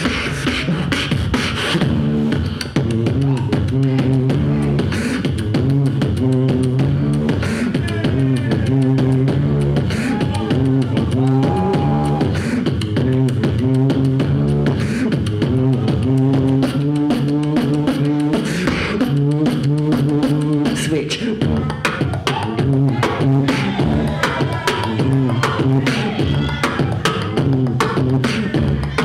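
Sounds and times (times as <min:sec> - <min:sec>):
person beatboxing: 0:00.0 - 0:29.0.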